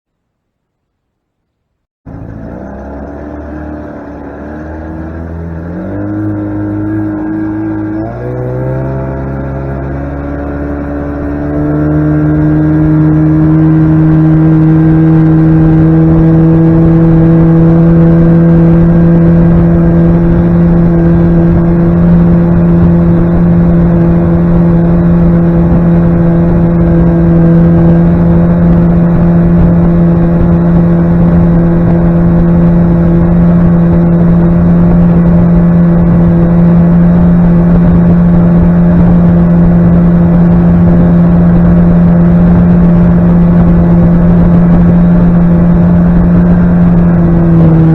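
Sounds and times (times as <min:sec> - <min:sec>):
outboard motor running: 0:02.0 - 0:47.9.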